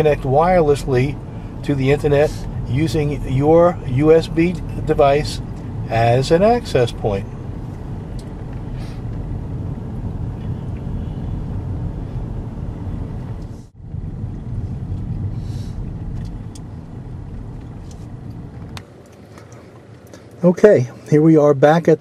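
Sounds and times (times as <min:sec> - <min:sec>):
car engine and road noise: 0:00.0 - 0:22.0
outdoor ambience: 0:00.0 - 0:22.0.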